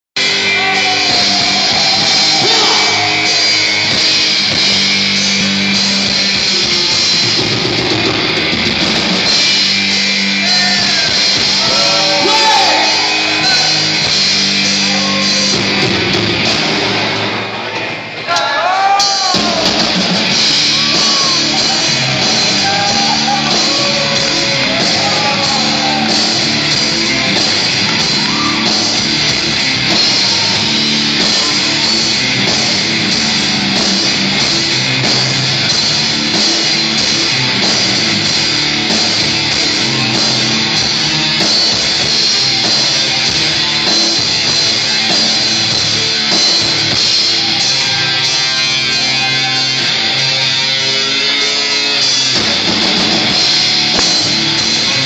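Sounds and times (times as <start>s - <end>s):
live rock band playing: 0.2s - 17.7s, 18.7s - 55.0s.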